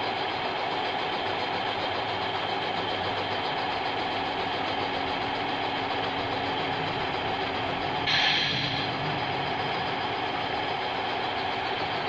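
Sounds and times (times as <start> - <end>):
toy truck mechanical hum: 0.0 - 12.0.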